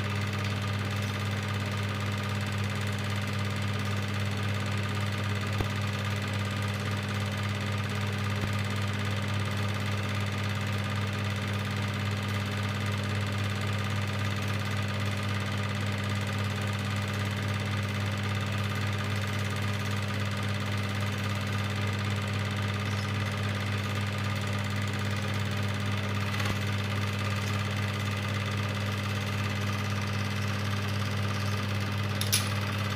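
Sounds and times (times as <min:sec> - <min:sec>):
film projector motor hum: 0:00.0 - 0:32.9.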